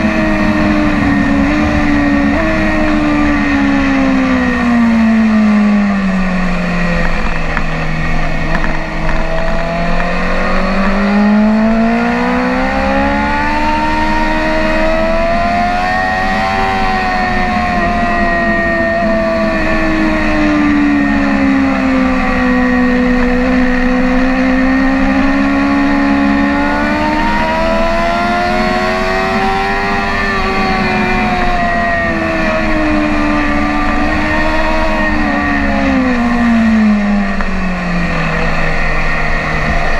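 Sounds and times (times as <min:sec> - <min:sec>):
motorcycle engine revving: 0:00.0 - 0:39.9
steady rush: 0:00.0 - 0:39.9.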